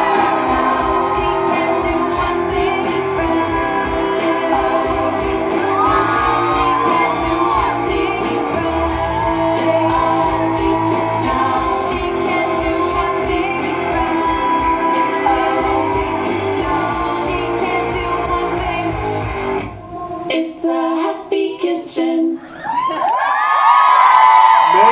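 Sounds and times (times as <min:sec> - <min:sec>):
pop song with singing: 0:00.0 - 0:24.9.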